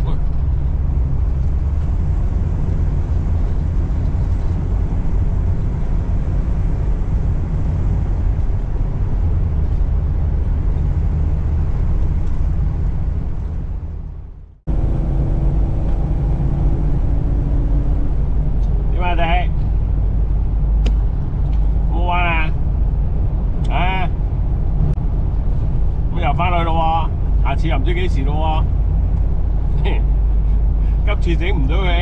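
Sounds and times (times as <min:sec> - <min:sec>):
motorhome engine and road rumble: 0:00.0 - 0:32.0.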